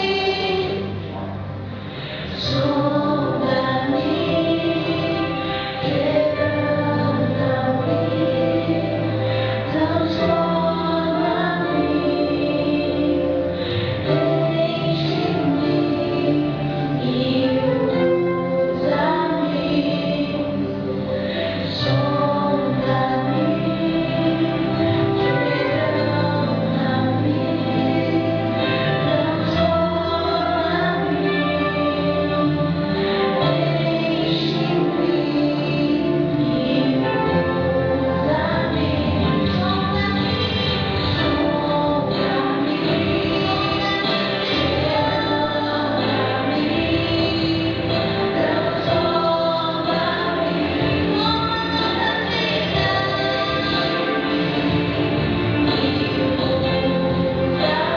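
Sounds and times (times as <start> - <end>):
women singing in harmony: 0.0 - 1.2, 2.1 - 57.9
musical accompaniment with bass line: 0.0 - 57.9.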